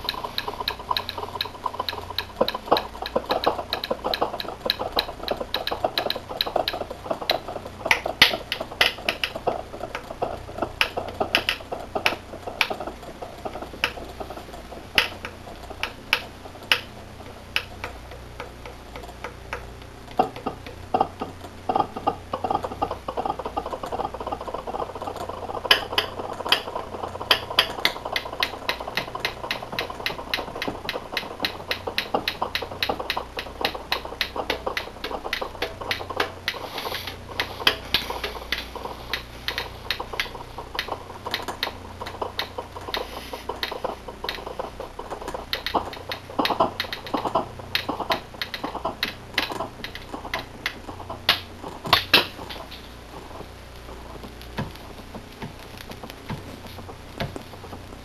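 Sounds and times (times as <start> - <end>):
rapid sharp clicks and ticks: 0.0 - 58.0.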